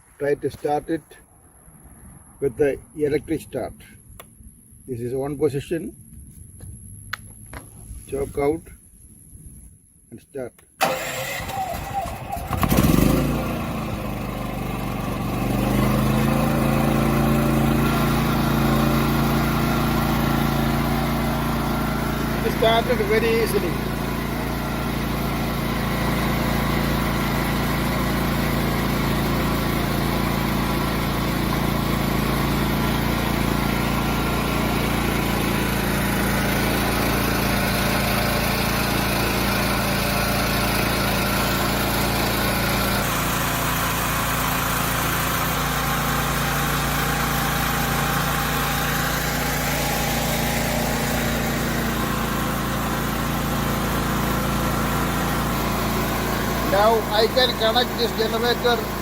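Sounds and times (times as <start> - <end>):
generator engine running: 10.8 - 59.0.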